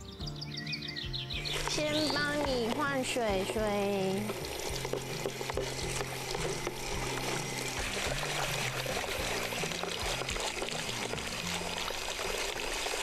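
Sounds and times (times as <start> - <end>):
background music: 0.0 - 13.0
tap water splashing into bowl: 2.0 - 13.0.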